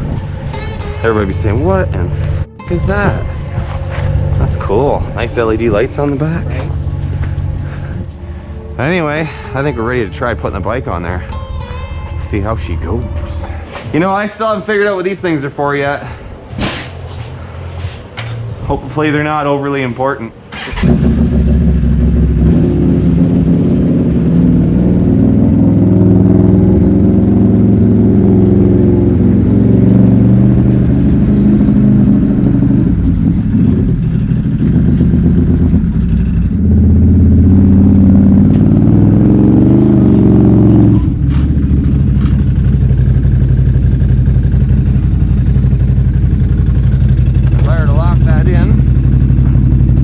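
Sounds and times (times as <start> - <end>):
motorcycle engine revving: 0.0 - 17.9, 20.5 - 50.0.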